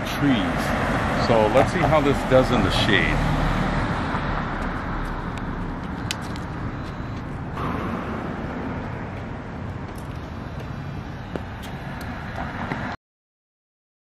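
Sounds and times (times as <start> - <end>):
passing cars traffic noise: 0.0 - 13.0.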